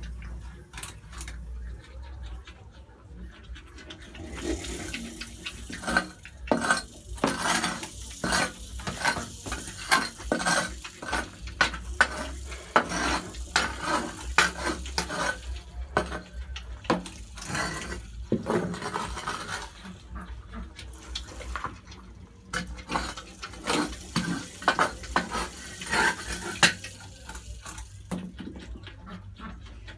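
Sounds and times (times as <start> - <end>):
porcupines crunching food: 0.0 - 29.9.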